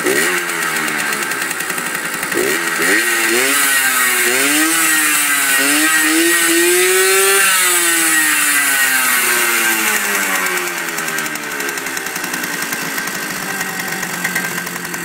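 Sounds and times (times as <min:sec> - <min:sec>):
moped engine revving: 0:00.0 - 0:15.0.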